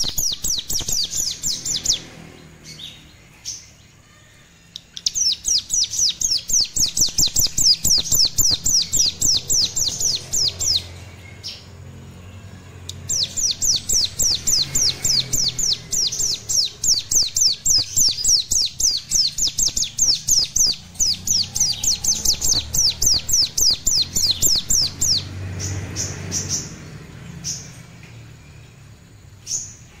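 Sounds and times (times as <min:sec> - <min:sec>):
bird trilling song: 0:00.0 - 0:30.0.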